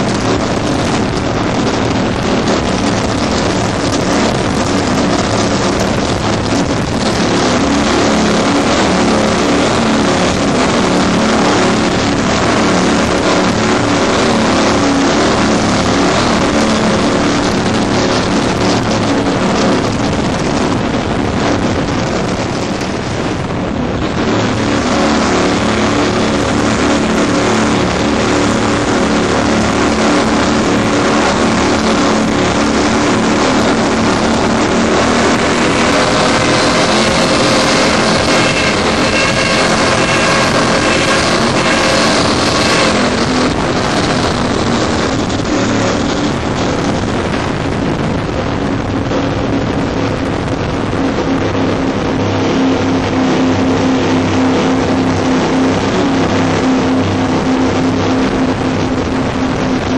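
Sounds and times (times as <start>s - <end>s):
powerboat engines droning: 0.0s - 59.9s
rushing spray: 0.0s - 59.9s
wind buffeting microphone: 0.0s - 59.9s.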